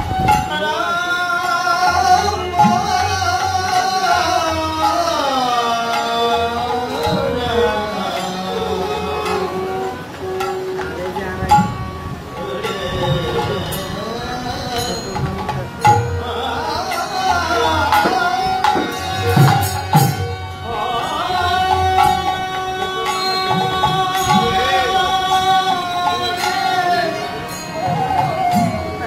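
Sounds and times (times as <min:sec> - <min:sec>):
hand drums: 0:00.0 - 0:29.0
harmonium: 0:00.0 - 0:29.0
man singing: 0:00.0 - 0:29.0.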